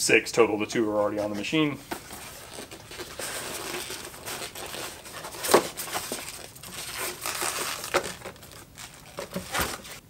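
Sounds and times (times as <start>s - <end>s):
cardboard box rustling and scraping: 1.3s - 10.0s.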